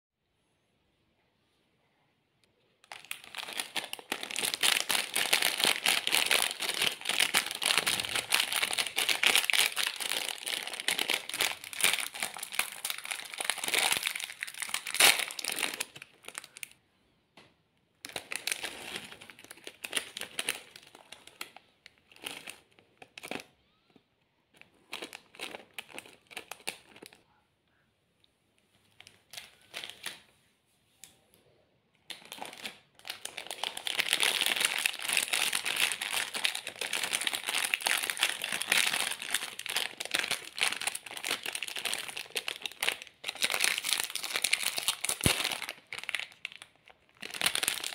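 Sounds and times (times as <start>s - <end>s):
plastic wrapper crinkling: 2.8s - 16.8s, 18.0s - 23.6s, 24.5s - 27.3s, 28.8s - 30.3s, 32.0s - 47.9s.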